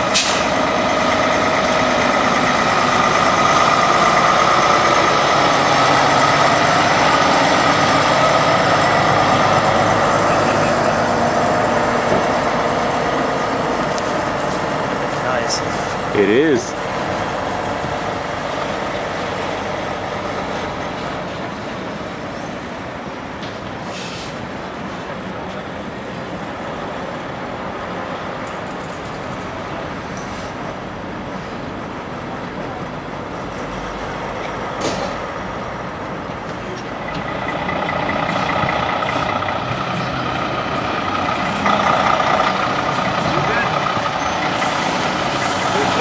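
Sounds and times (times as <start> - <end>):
truck diesel engine running: 0.0 - 23.0, 30.7 - 46.0.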